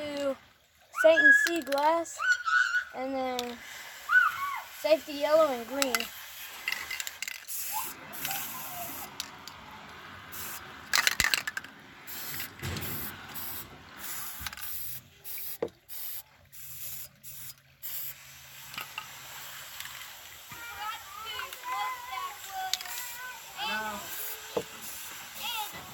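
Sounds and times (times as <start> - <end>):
spray paint can hissing: 3.2 - 25.9.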